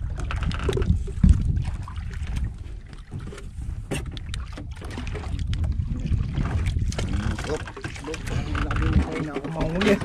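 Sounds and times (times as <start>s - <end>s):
fishing tackle clicks and knocks: 0.0s - 1.5s, 2.4s - 5.8s, 6.6s - 10.0s
wind rumbling on microphone: 0.0s - 10.0s.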